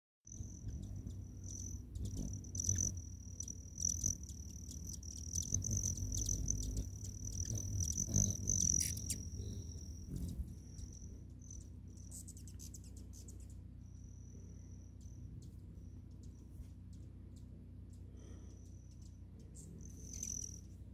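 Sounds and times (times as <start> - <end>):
hummingbird buzzing trill: 0.3 - 17.0, 18.2 - 20.9
low hum: 0.3 - 20.9.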